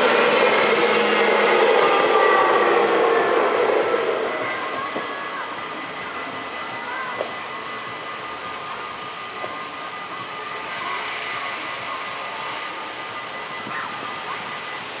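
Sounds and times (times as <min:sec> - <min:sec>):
road traffic hiss: 0:00.0 - 0:15.0.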